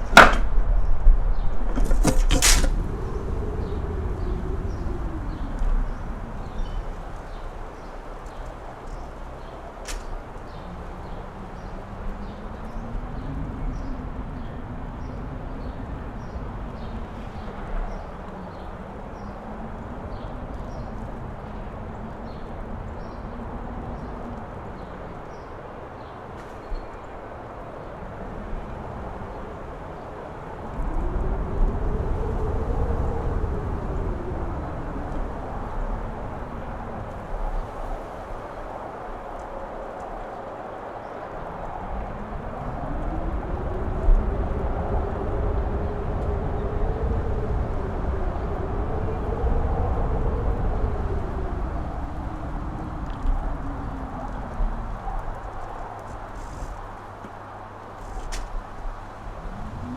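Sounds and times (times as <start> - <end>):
strong wind howling in gusts: 0.0 - 59.9.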